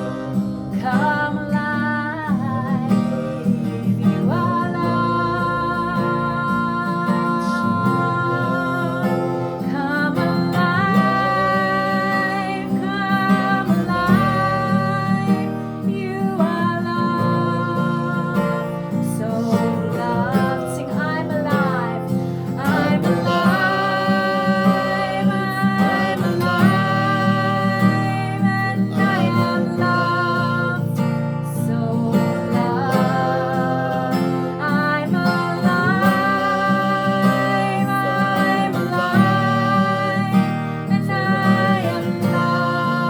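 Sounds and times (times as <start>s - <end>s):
acoustic guitar: 0.0s - 43.0s
woman singing: 0.0s - 43.0s.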